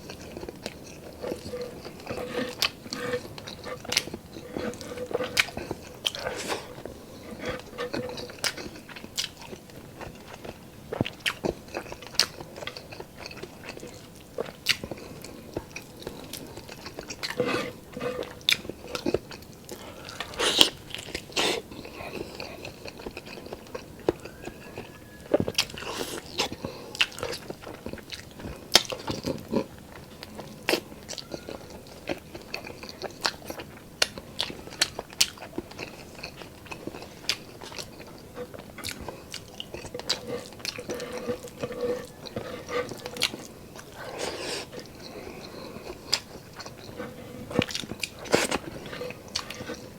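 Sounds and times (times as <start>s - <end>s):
person chewing and smacking: 0.0s - 49.9s.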